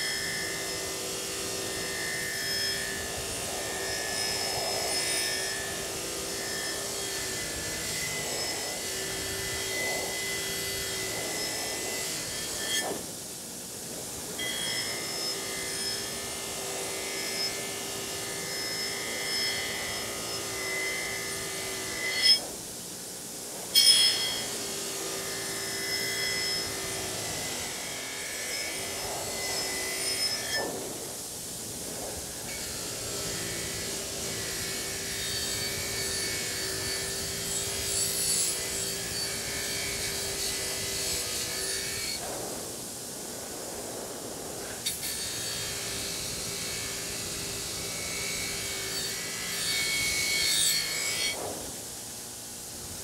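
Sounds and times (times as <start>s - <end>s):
wire wheel grinder scraping metal: 0.0s - 42.3s, 44.6s - 52.0s.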